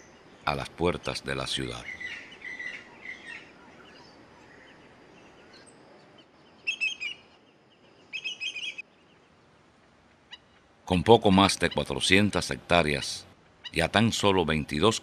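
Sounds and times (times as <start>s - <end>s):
bird calls: 0.0s - 9.4s, 10.1s - 15.0s.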